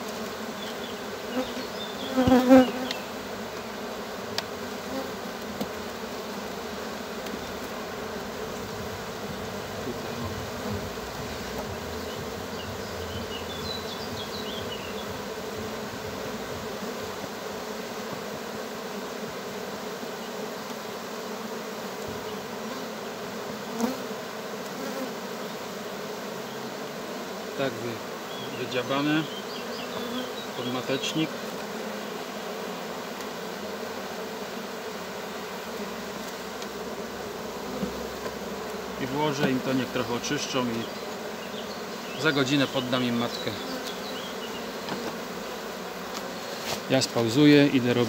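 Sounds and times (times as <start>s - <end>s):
honeybees buzzing: 0.0s - 48.0s.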